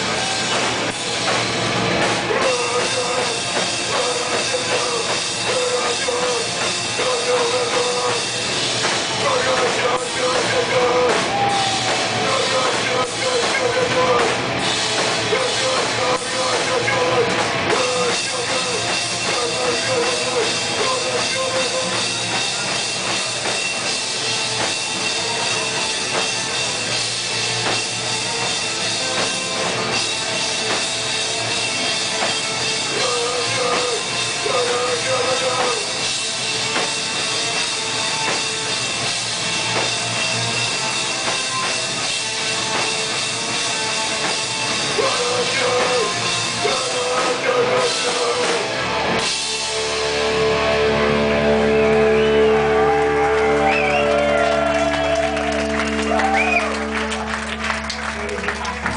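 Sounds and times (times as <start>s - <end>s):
bass guitar: 0.0s - 58.9s
distorted guitars: 0.0s - 58.9s
drum kit: 0.0s - 58.9s.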